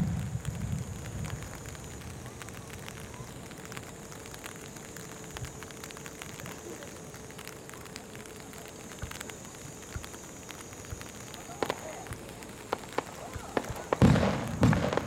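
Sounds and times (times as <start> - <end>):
rain hissing: 0.0 - 15.0
raindrops ticking on umbrella: 0.0 - 15.0.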